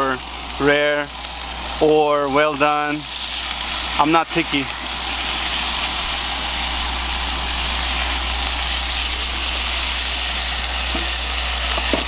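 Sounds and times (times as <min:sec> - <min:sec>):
burger patties sizzling in oil: 0:00.0 - 0:12.0
low steady hum: 0:00.0 - 0:12.0.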